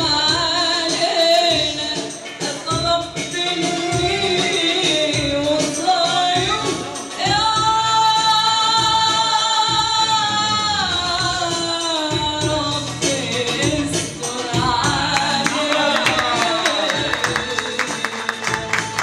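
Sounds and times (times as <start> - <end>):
woman singing into a microphone: 0.0 - 18.9.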